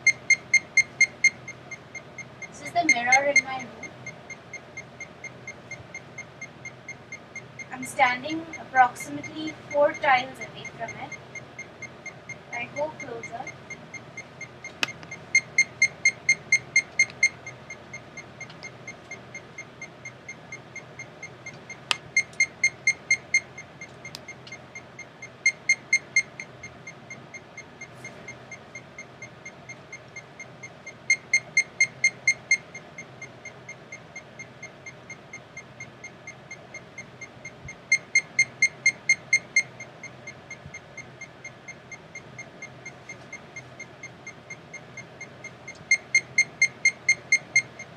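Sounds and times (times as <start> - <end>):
short high-pitched computer beeps: 0.0 - 14.5, 15.3 - 21.4, 22.2 - 24.4, 25.4 - 30.0, 31.1 - 47.9.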